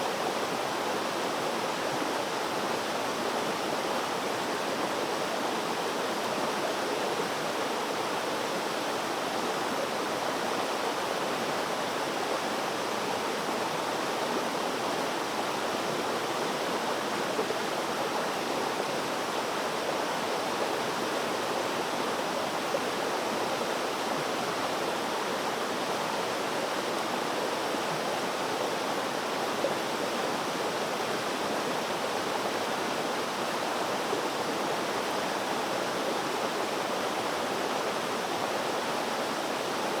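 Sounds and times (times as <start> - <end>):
water flowing steadily: 0.0 - 40.0.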